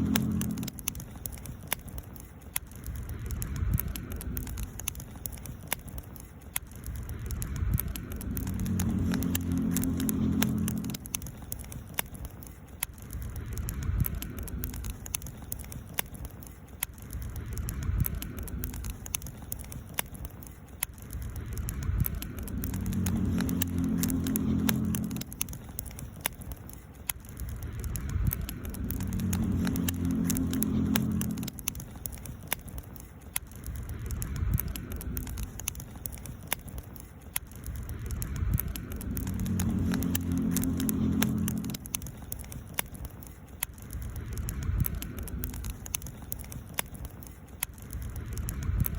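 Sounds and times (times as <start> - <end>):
low rumbling hum: 0.0 - 16.4, 17.0 - 47.2
wood fire crackling and popping: 0.0 - 48.9.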